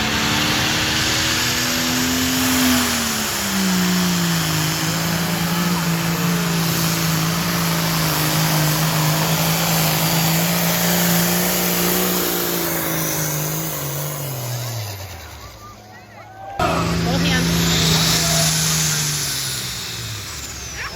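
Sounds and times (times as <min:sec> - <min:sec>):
engine roaring under heavy load: 0:00.0 - 0:20.9.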